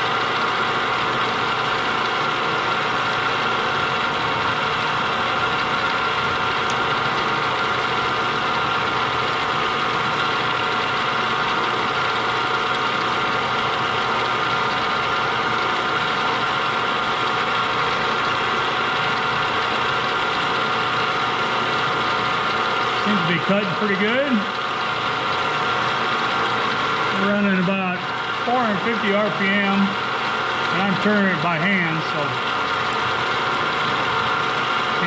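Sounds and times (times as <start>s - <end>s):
milling machine cutting metal: 0.0s - 35.0s.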